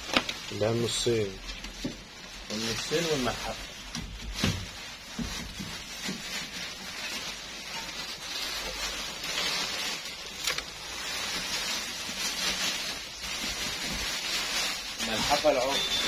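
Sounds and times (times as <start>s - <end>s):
garment rustling: 0.0s - 16.0s.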